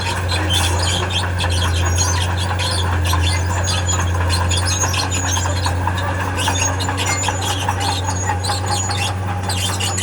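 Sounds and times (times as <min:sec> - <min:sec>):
diesel engine droning: 0:00.0 - 0:10.0
steel tracks squealing: 0:00.0 - 0:10.0.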